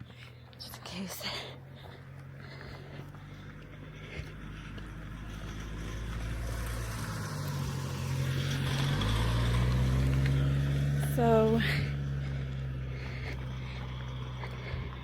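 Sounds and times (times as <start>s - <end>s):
car approaching slowly: 0.0s - 15.0s.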